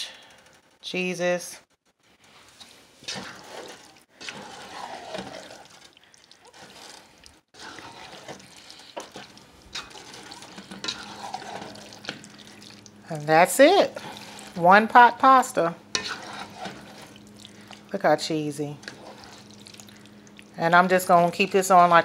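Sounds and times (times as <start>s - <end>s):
spatula stirring pasta in pot: 2.0s - 22.0s.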